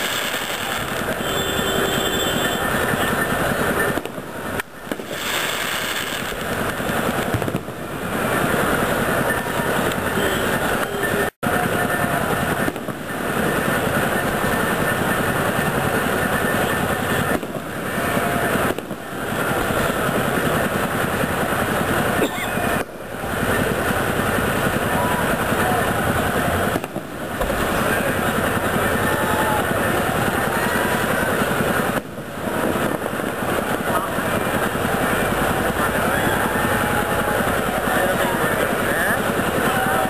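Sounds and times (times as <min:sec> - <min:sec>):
fireworks rapid crackle: 0:00.0 - 0:40.0.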